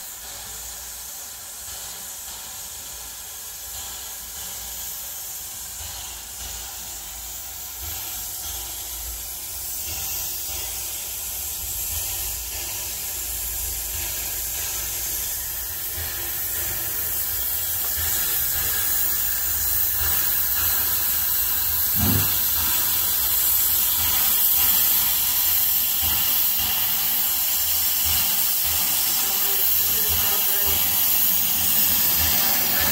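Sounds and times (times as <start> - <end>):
steam locomotive hissing: 0.0 - 32.9.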